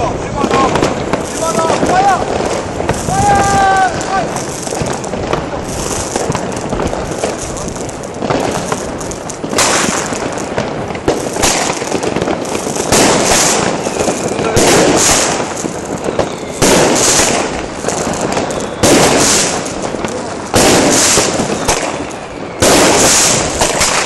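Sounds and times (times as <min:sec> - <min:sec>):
firecrackers crackling: 0:00.0 - 0:24.0
firework bangs: 0:00.0 - 0:24.0.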